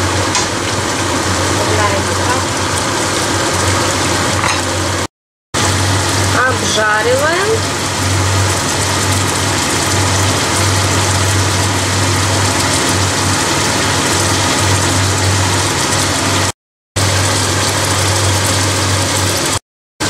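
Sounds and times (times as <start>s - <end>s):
food sizzling in a wok: 0.0s - 19.6s.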